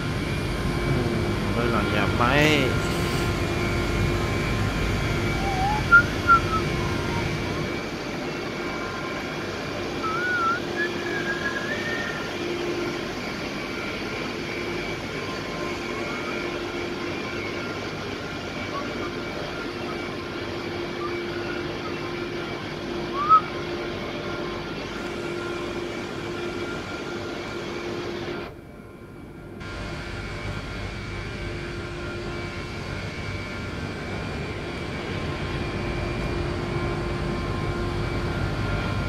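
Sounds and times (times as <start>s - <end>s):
power plant machinery drone: 0.0s - 39.0s.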